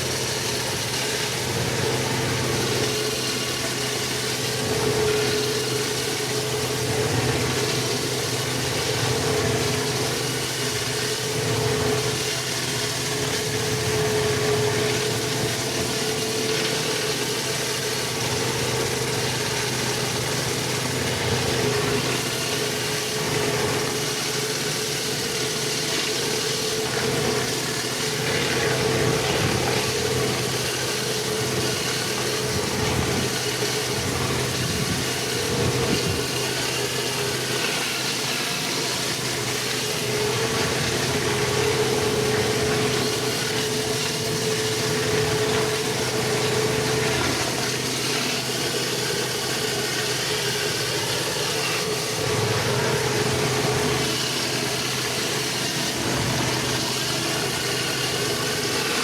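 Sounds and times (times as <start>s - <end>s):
pressure washer engine running: 0.0s - 59.0s.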